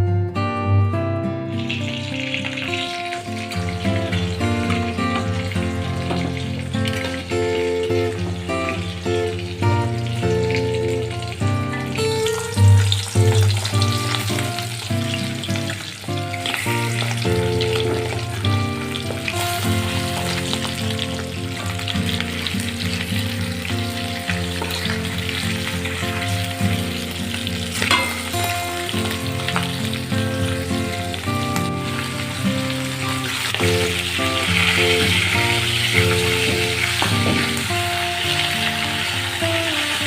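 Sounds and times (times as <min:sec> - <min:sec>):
instrumental music: 0:00.0 - 0:40.0
food sizzling in hot oil: 0:01.5 - 0:40.0.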